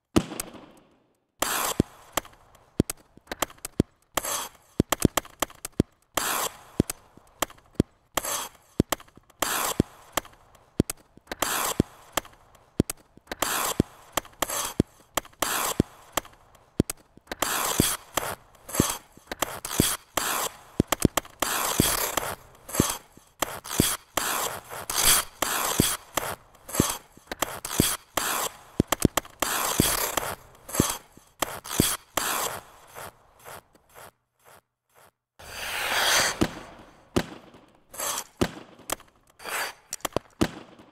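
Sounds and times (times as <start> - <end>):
skate blades tapping on ice: 0.4 - 40.9
skate blades scraping ice: 1.4 - 40.9.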